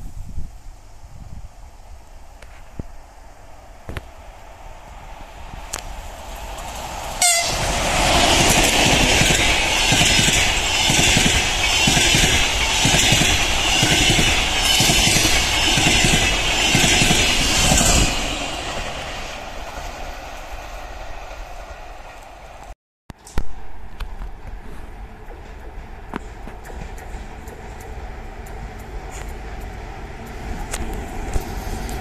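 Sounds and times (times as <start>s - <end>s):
passing train rush: 0.0s - 32.0s.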